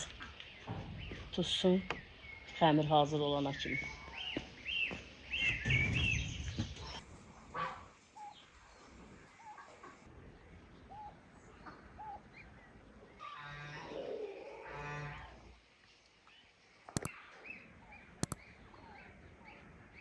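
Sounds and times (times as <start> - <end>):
birds chirping: 0.0 - 13.6, 15.8 - 20.0.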